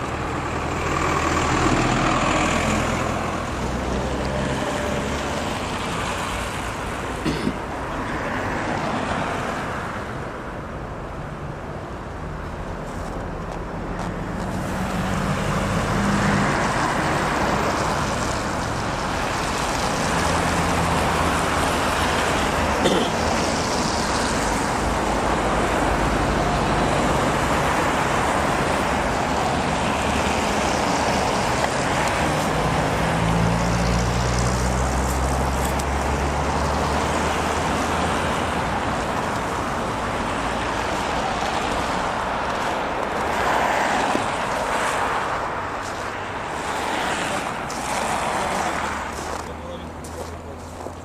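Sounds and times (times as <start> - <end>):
road noise: 0.0 - 51.0.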